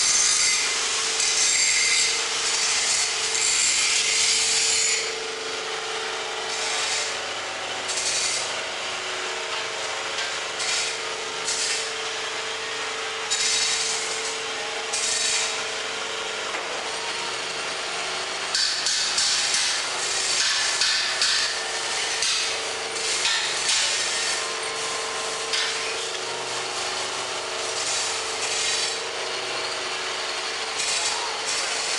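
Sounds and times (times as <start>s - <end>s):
mixing machine motor hum: 2.1s - 31.9s.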